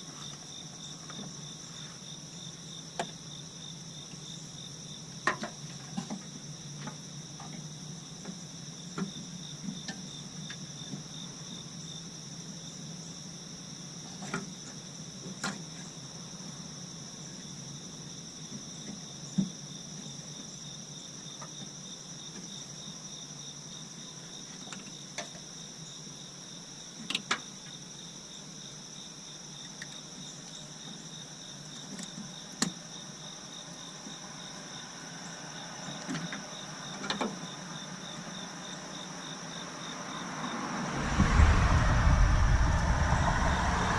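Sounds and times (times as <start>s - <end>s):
crickets chirping: 0.0s - 43.9s.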